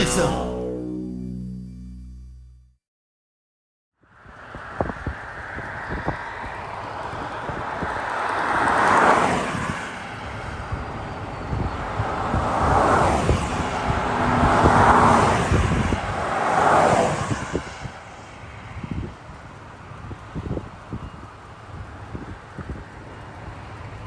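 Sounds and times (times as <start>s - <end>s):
rushing outdoor noise: 4.0s - 24.0s.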